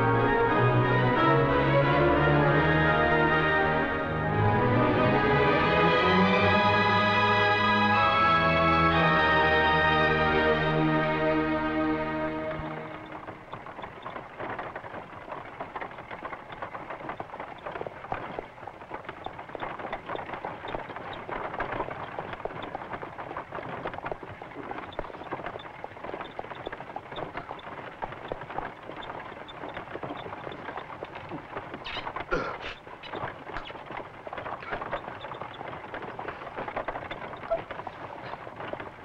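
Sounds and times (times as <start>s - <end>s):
hooves and wagon clatter: 0.0s - 39.0s.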